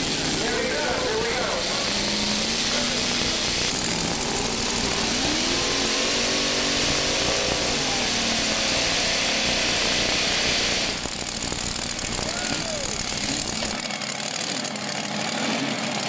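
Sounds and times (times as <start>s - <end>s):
tractor engines revving loud: 0.0s - 16.0s.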